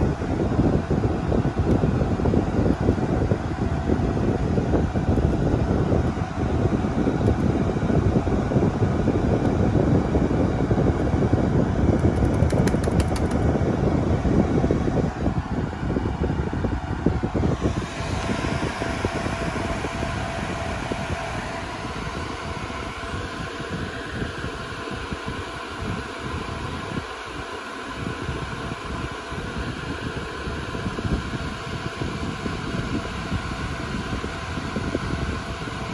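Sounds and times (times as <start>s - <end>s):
cooling fans running: 0.0s - 35.9s.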